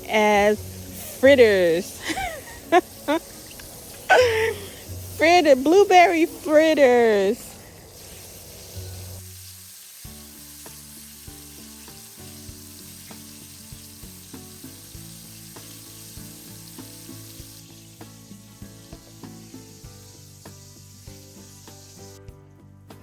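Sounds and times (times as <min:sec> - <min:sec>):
batter sizzling in oil: 0:00.0 - 0:22.2
quiet background music: 0:00.0 - 0:23.0.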